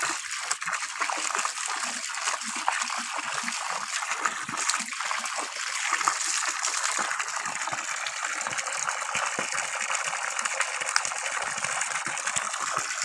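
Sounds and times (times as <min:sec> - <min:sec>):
water gushing onto muddy ground: 0:00.0 - 0:13.0.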